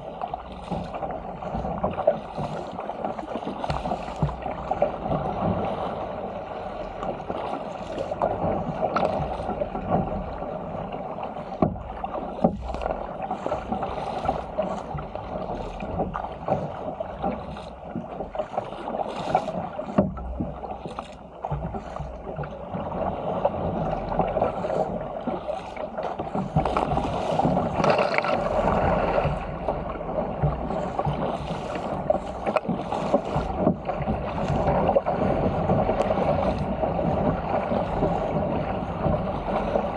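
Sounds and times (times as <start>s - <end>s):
sharp splashes and knocks: 0.0s - 39.9s
water rushing along hull: 0.0s - 39.9s.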